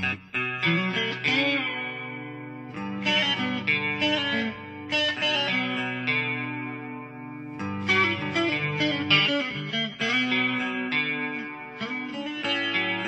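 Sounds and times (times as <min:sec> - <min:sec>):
guitar picking melodic notes: 0:00.0 - 0:13.0.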